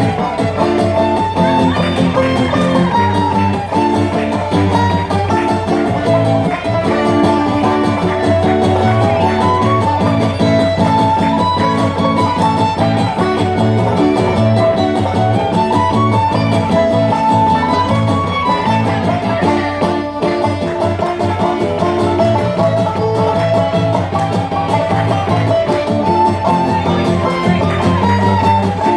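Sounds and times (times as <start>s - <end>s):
fiddle banjo and guitar band: 0.0s - 28.9s.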